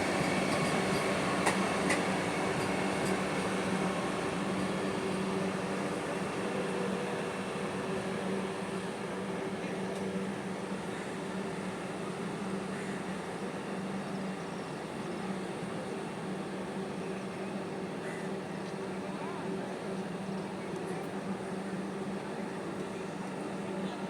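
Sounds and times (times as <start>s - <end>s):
electric train humming: 0.0s - 20.3s.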